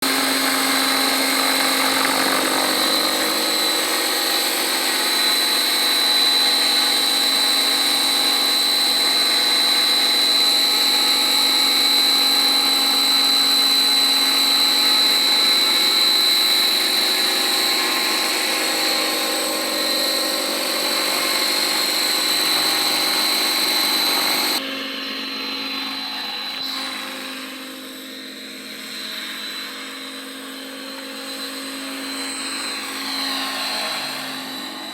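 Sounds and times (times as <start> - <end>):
helicopter rotor: 0.0 - 34.9
rc helicopter motor whine: 0.0 - 34.9.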